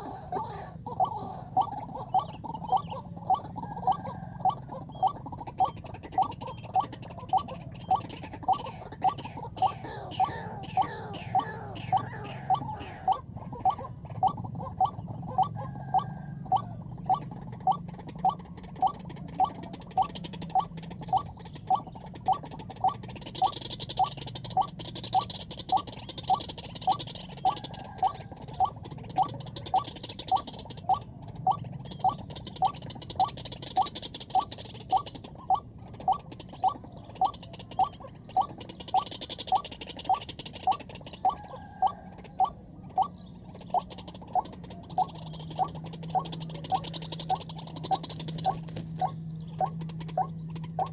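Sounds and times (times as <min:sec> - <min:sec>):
bird croaking notes: 0:00.0 - 0:50.9.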